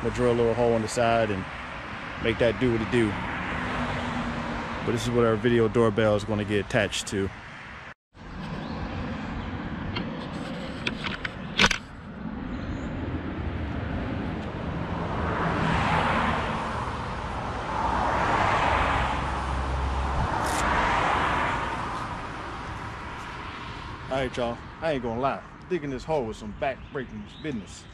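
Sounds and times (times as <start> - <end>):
cars passing: 0.0 - 27.9.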